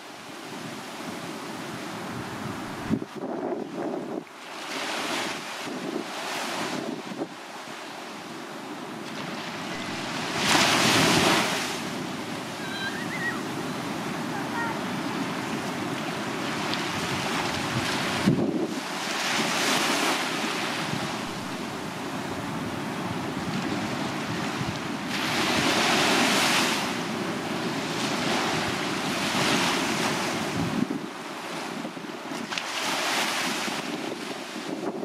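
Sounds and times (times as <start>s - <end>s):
waves washing onto sandy beach: 0.0s - 35.0s
wind rumble on microphone: 0.5s - 7.5s, 9.2s - 35.0s.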